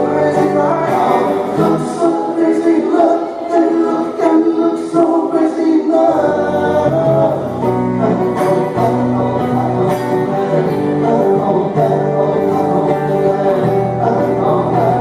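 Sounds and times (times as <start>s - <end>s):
guitar accompaniment: 0.0s - 15.0s
person singing: 0.0s - 15.0s.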